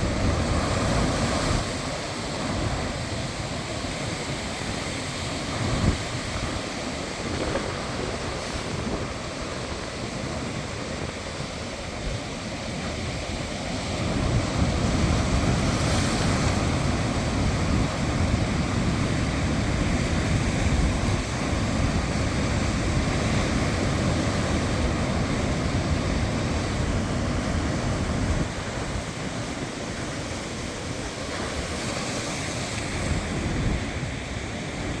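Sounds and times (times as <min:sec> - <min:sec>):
sea waves breaking: 0:00.0 - 0:35.0
wind buffeting microphone: 0:00.0 - 0:35.0.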